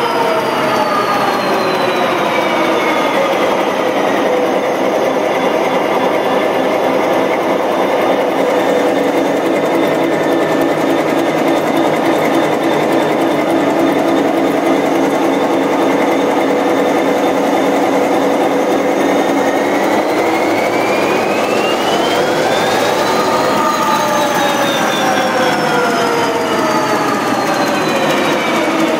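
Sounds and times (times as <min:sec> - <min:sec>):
diesel locomotive engine droning: 0:00.0 - 0:28.9
rising whine: 0:00.0 - 0:28.9.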